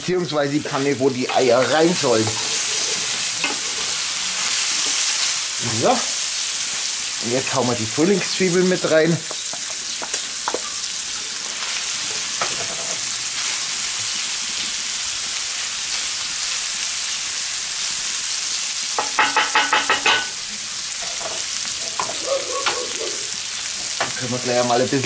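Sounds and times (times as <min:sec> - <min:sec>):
bacon and onions sizzling in pan: 0:00.0 - 0:25.0.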